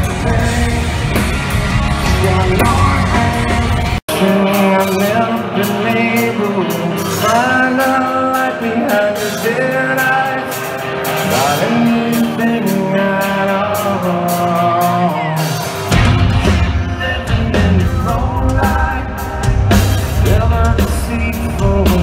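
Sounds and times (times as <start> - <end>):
drums and cymbals beat: 0.0 - 22.0
guitar: 0.0 - 22.0
person singing: 0.0 - 22.0.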